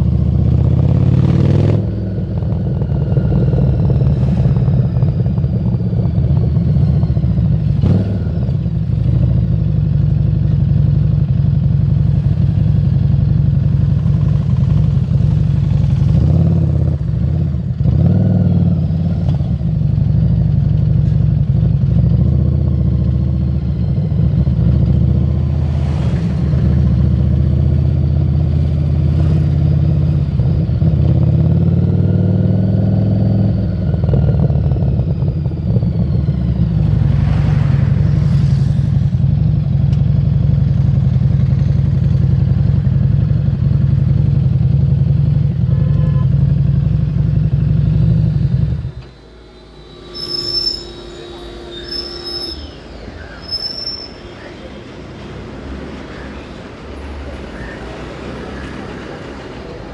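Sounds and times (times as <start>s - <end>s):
motorcycle engine running: 0.0s - 52.2s.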